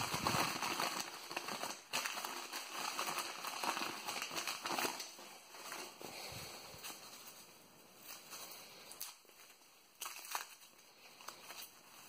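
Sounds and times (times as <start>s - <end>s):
newspaper rustling and crinkling: 0.0s - 12.0s.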